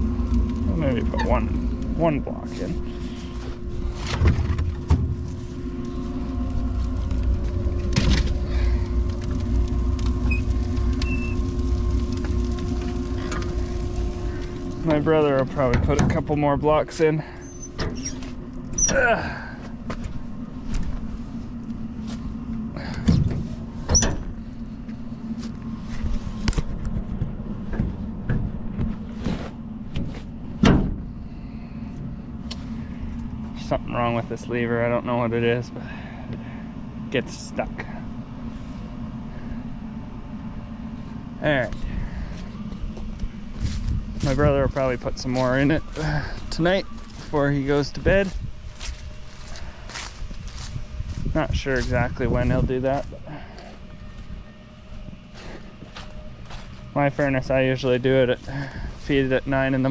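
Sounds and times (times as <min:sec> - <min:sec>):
furnace fan humming: 0:00.0 - 0:59.9.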